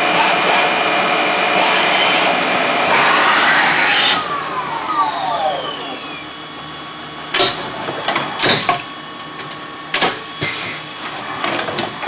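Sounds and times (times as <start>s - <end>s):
machine high whine: 0.0s - 12.0s.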